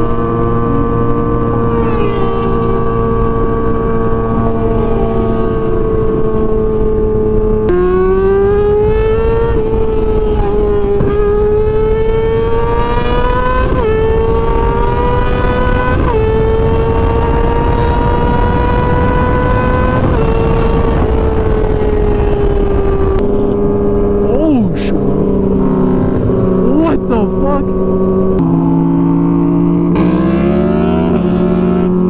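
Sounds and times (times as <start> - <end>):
motorcycle engine at high revs: 0.0 - 32.0
wind rushing: 5.1 - 31.3.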